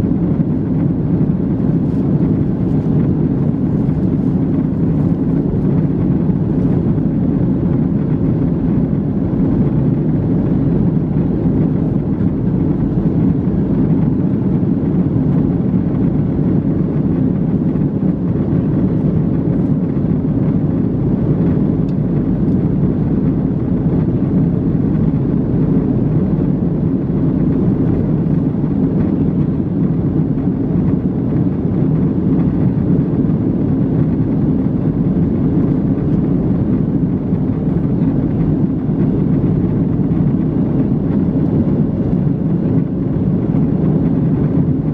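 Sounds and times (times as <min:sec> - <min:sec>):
airliner cabin engine rush: 0:00.0 - 0:44.9.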